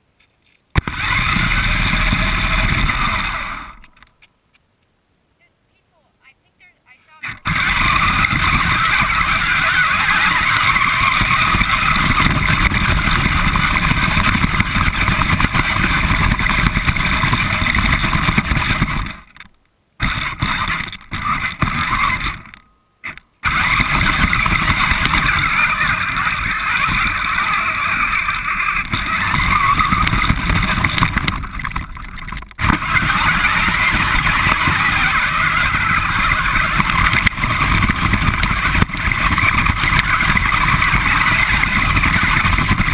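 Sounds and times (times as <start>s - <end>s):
rc car drivetrain and wind rush: 0.8s - 4.1s, 7.1s - 42.9s.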